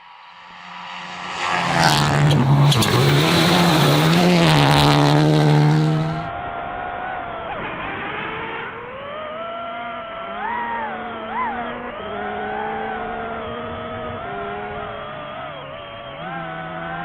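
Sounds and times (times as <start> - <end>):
rally car engine at speed: 0.0 - 17.0.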